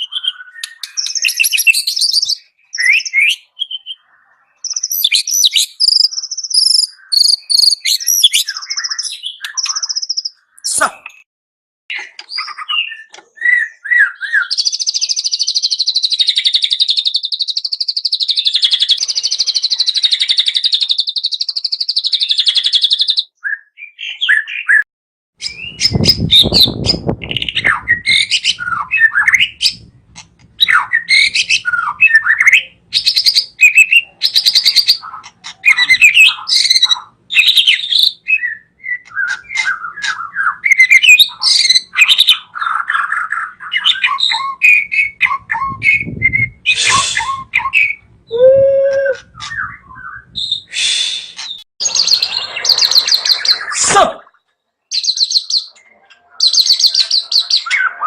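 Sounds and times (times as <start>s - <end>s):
songbird singing varied song: 0.0s - 11.2s, 11.9s - 24.8s, 25.4s - 53.7s, 54.3s - 58.0s.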